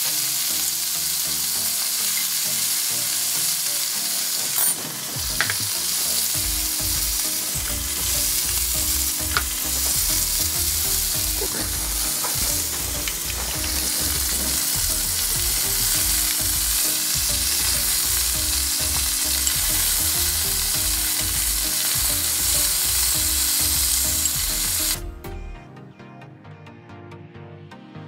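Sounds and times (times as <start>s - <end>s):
clams sizzling in hot oil: 0.0s - 25.0s
background music: 0.0s - 28.0s.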